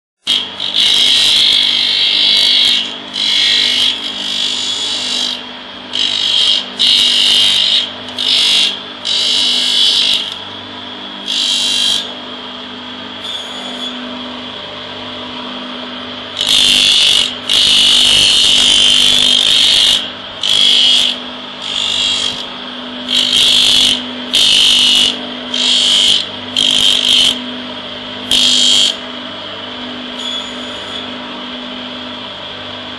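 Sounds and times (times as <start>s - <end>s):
motor hum: 0.2s - 32.9s.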